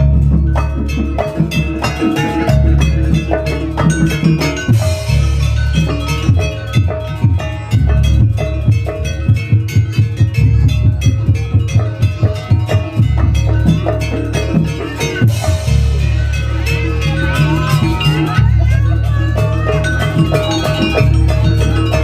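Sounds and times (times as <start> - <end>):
gamelan-style percussion music: 0.0 - 22.0
heavy bass: 0.0 - 22.0.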